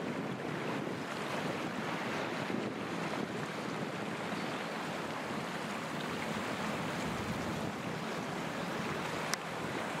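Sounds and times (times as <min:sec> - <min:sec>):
waves: 0:00.0 - 0:10.0
wind: 0:00.0 - 0:10.0.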